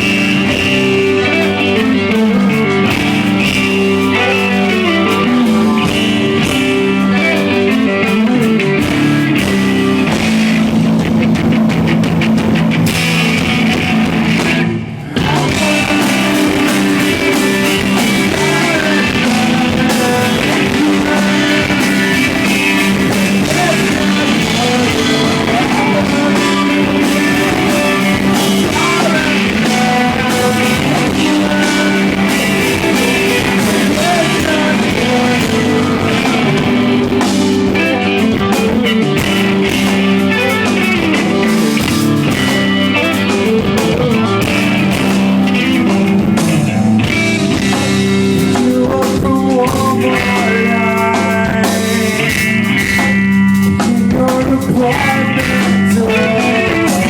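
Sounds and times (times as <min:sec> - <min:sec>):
electric guitar: 0:00.0 - 0:57.0
live rock band playing: 0:00.0 - 0:57.0.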